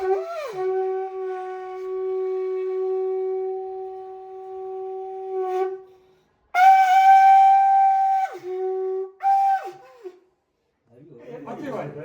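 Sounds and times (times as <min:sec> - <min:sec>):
conch shell blowing: 0:00.0 - 0:10.3.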